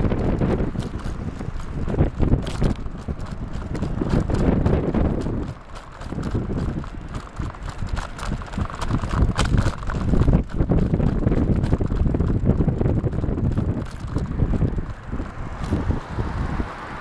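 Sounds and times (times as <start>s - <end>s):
bicycle clicks and rattles: 0.0s - 16.5s
wind buffeting microphone: 0.0s - 17.0s.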